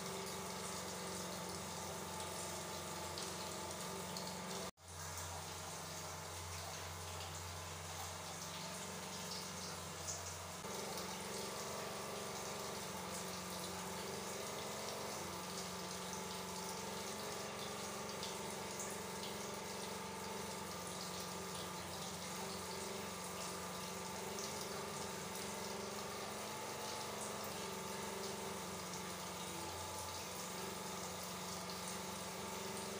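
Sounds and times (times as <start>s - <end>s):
water running from tap: 0.0s - 32.9s.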